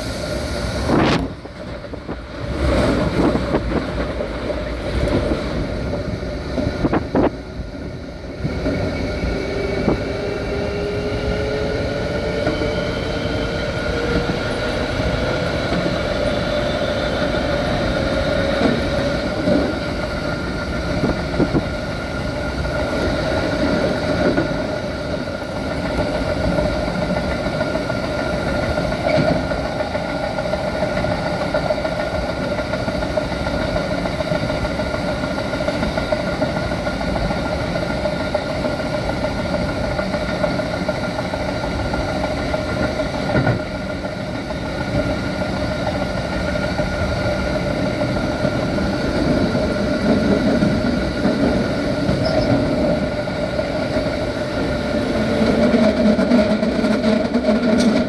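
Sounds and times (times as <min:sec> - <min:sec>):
train motor whine: 0:00.0 - 0:58.0
wheel and rail noise: 0:00.0 - 0:58.0.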